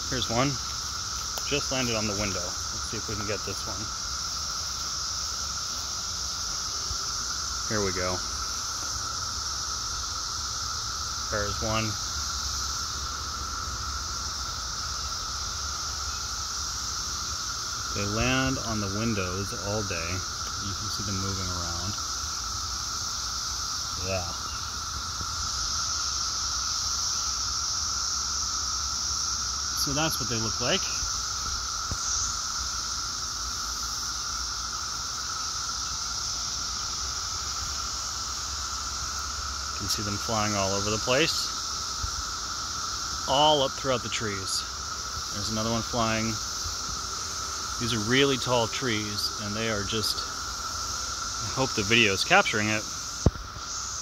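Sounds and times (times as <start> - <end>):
cicadas chorus: 0.0 - 54.0.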